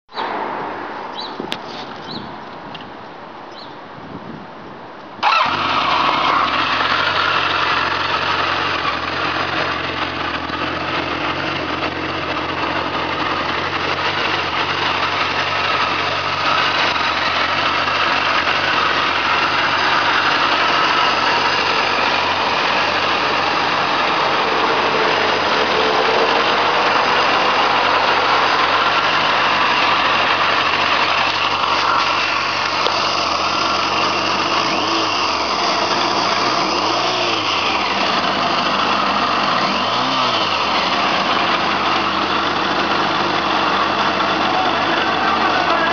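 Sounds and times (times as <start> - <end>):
motorcycle engine starting and idling: 5.2 - 45.9.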